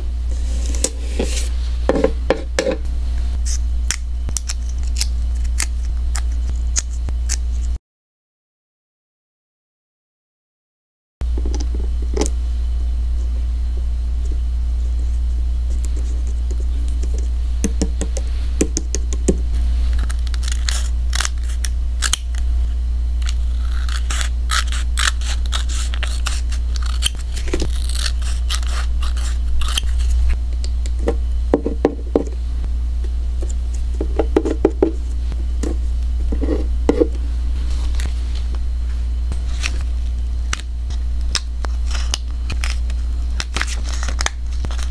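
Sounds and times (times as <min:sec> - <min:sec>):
steady low hum: 0:00.0 - 0:07.8, 0:11.2 - 0:44.9.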